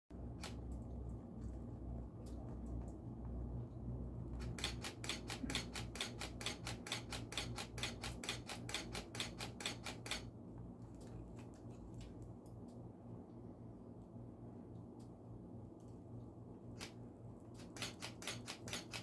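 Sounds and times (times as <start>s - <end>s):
low steady hum: 0.1s - 19.0s.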